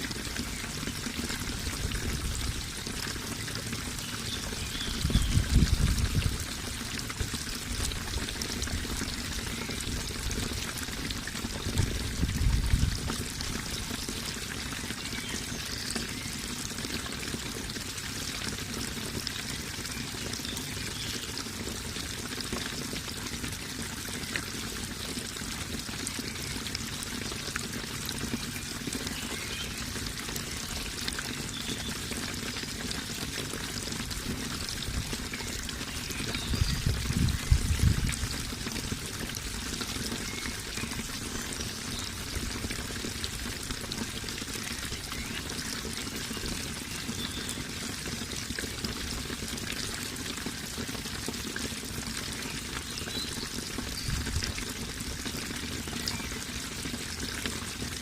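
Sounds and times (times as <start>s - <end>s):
running splashing water: 0.0s - 58.0s.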